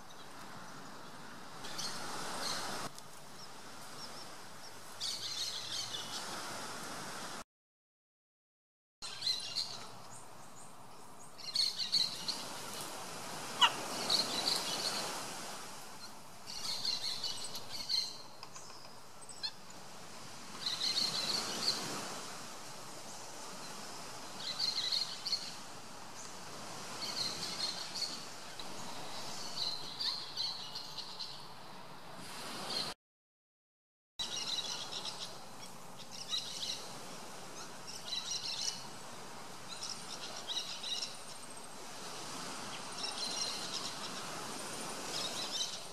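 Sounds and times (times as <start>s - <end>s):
steady outdoor hiss: 0.0s - 7.4s, 9.0s - 33.0s, 34.2s - 45.9s.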